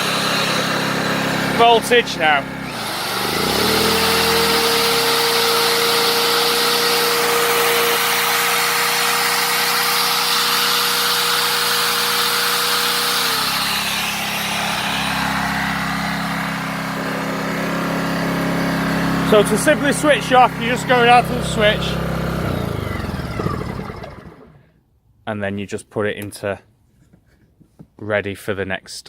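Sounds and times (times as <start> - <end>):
router motor whining: 0.0 - 24.6
generator engine running: 0.0 - 24.7.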